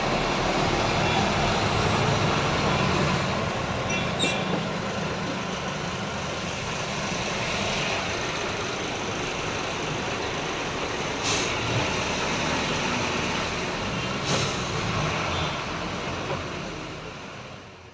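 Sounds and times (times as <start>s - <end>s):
truck engine and road noise: 0.0s - 17.9s.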